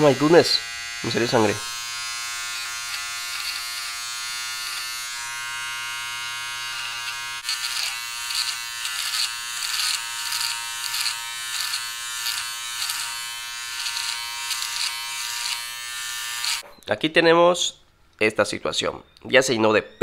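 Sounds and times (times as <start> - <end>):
electric shaver buzzing: 0.0 - 16.6.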